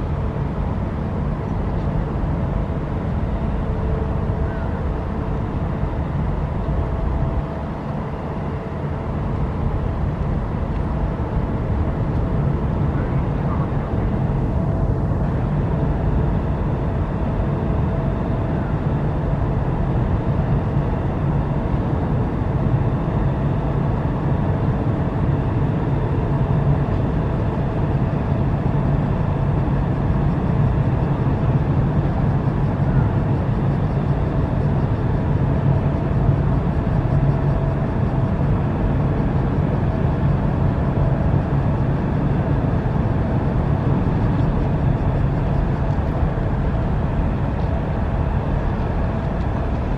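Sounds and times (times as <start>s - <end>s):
ferry engines droning: 0.0s - 49.9s.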